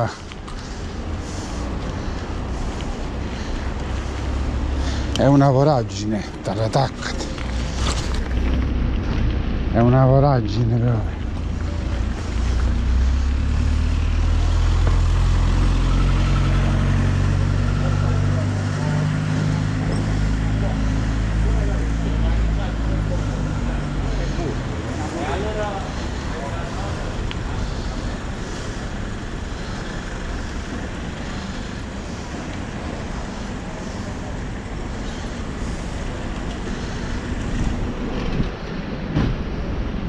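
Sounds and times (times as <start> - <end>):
road noise: 0.0 - 40.0
vehicle engine running: 0.0 - 40.0.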